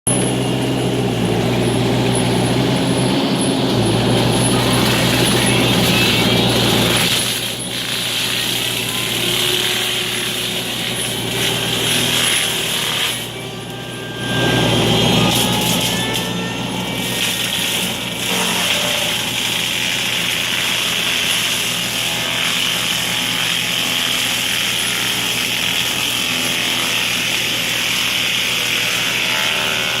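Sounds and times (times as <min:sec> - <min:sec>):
forestry mulcher droning: 0:00.1 - 0:30.0.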